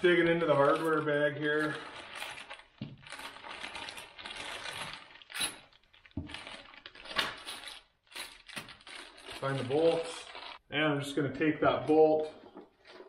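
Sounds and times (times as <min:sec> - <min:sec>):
plastic bag rustling: 0:00.0 - 0:10.6.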